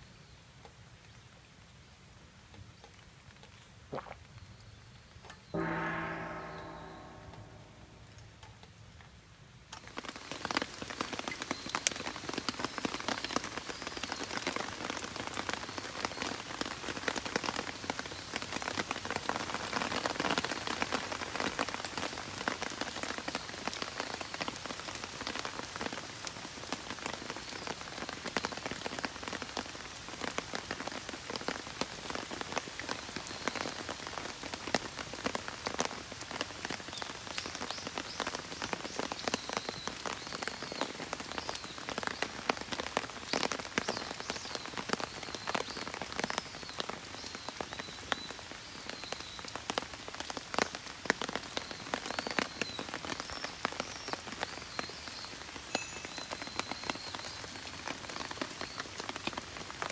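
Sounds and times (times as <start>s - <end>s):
rain falling through trees: 0.0s - 59.9s.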